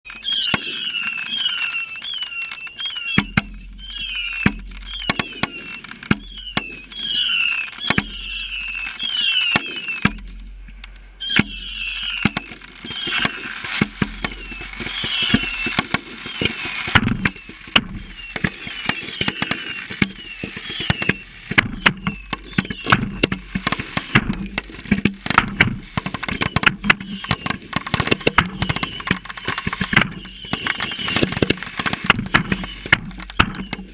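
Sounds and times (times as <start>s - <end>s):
whistling fireworks: 0.0s - 10.4s, 11.2s - 33.9s
fireworks bangs and crackles: 0.0s - 33.9s.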